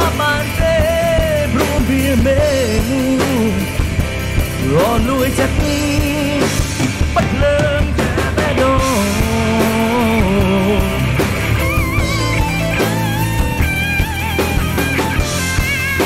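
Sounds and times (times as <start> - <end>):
bass guitar: 0.0 - 16.0
drum kit beat: 0.0 - 16.0
electric guitars: 0.0 - 16.0
wavering lead melody: 2.3 - 16.0.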